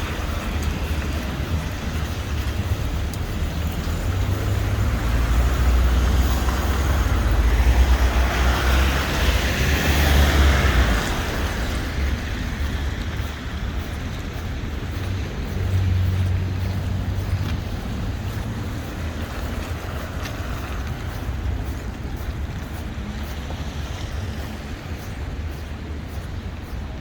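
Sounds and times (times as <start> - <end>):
street traffic rumble: 0.0 - 27.0
vehicle passing: 0.0 - 27.0.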